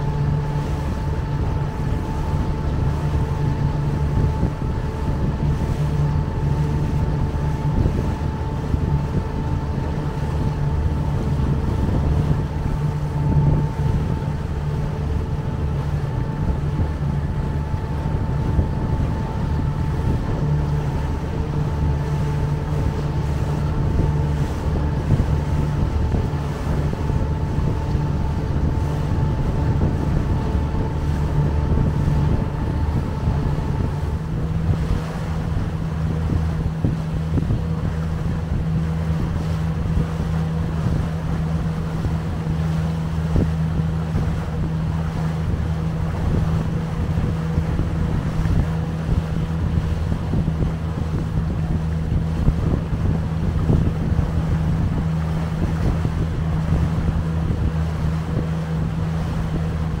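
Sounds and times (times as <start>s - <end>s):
outboard engine running: 0.0s - 60.0s
water rushing past hull: 0.0s - 60.0s
wind buffeting microphone: 0.0s - 60.0s.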